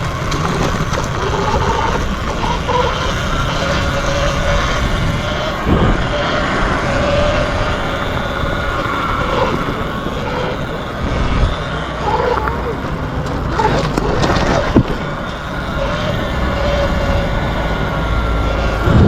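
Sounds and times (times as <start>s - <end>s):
electric motor whining: 0.0s - 19.0s
wind rumble on microphone: 0.0s - 19.0s.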